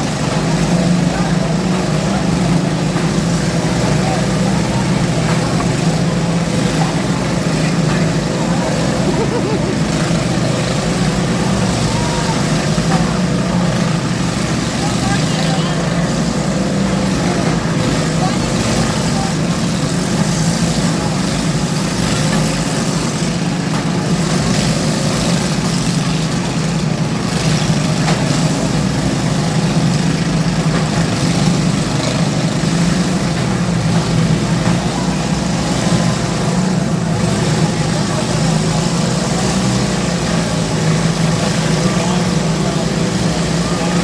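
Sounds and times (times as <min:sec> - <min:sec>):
lawn tractor engines droning: 0:00.0 - 0:44.0.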